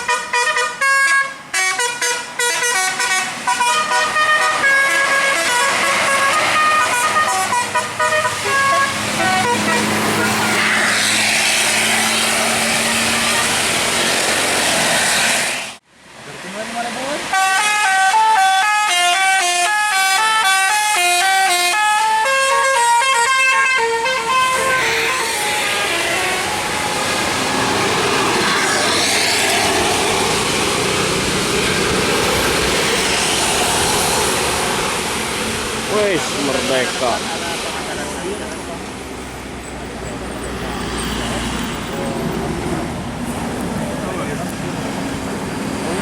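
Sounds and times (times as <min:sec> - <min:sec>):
bus engine driving by: 0:00.0 - 0:46.0.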